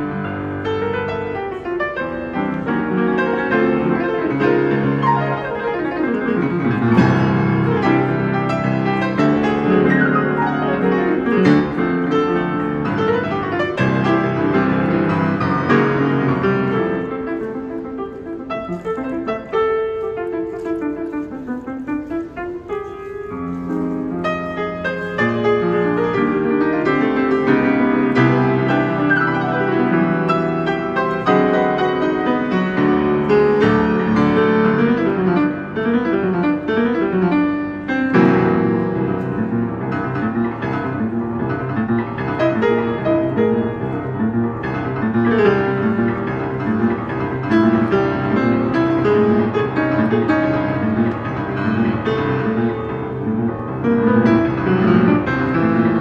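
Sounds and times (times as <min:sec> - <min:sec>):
solo grand piano chords: 0:00.0 - 0:56.0.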